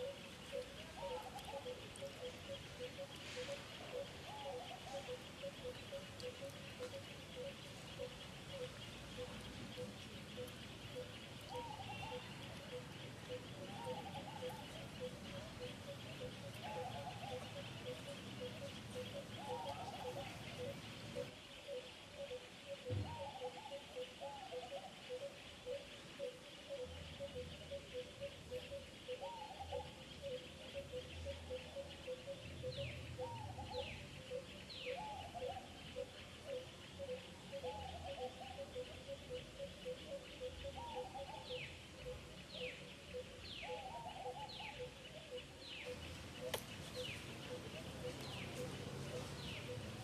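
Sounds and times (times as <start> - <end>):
high insect hum: 0.0 - 50.0
lower arched bird calls: 0.0 - 50.0.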